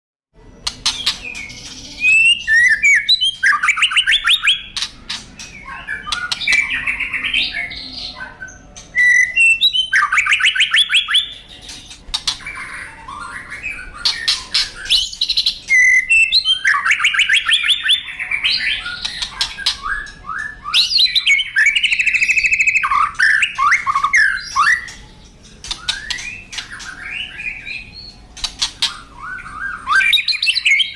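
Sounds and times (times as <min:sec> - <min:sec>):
songbird singing: 0:00.4 - 0:30.9.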